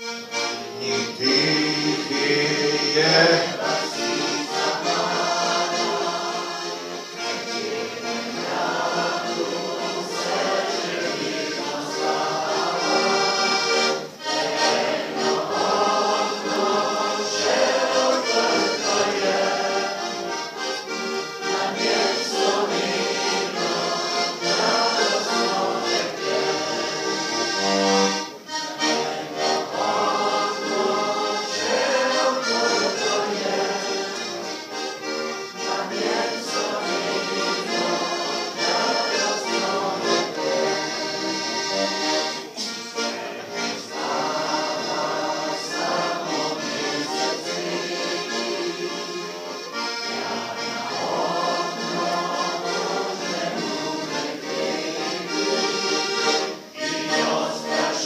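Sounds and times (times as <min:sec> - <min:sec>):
button accordion playing a tune: 0:00.0 - 0:58.0.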